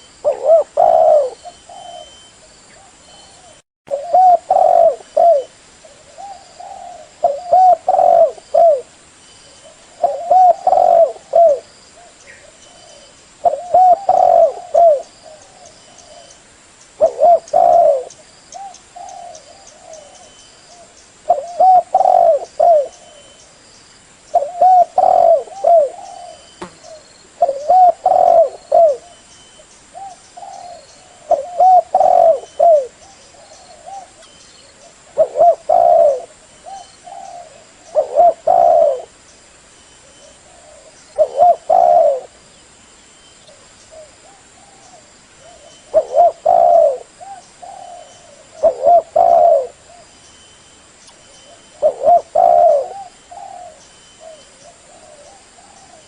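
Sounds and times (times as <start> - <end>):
dove cooing: 0.0 - 9.0, 9.6 - 16.4, 17.0 - 23.4, 24.3 - 29.2, 30.0 - 39.2, 40.0 - 42.4, 43.5 - 50.2, 51.4 - 56.0.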